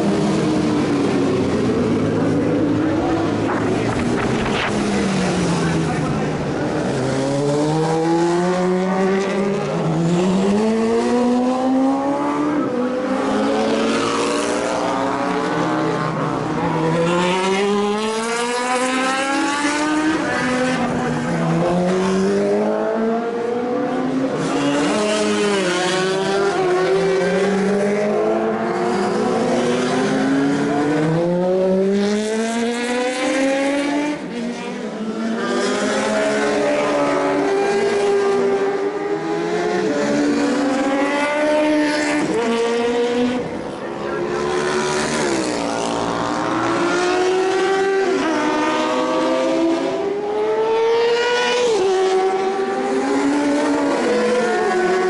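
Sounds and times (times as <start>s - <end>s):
racing motorcycle engines accelerating: 0.0s - 55.0s.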